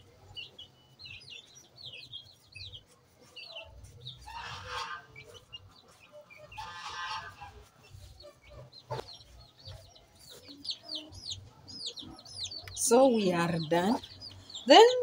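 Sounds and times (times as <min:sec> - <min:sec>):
chickens clucking: 0:00.0 - 0:15.0
small birds chirping: 0:00.0 - 0:15.0.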